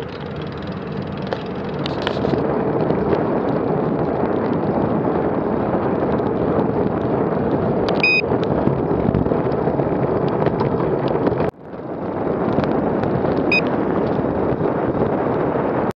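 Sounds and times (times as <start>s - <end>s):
road noise: 0.0s - 15.9s
wind buffeting microphone: 0.0s - 15.9s.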